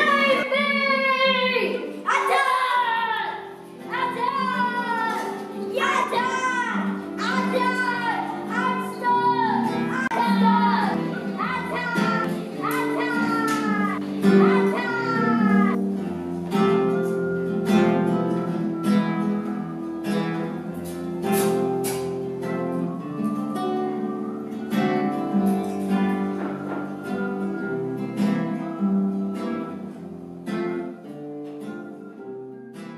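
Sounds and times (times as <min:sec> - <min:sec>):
acoustic guitar music: 0:00.0 - 0:32.9.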